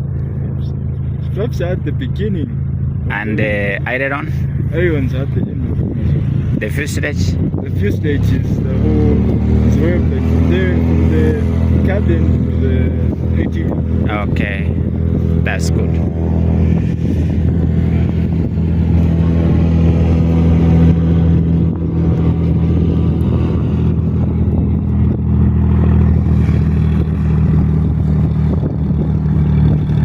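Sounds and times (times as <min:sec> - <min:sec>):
low-pitched engine drone: 0:00.0 - 0:30.0.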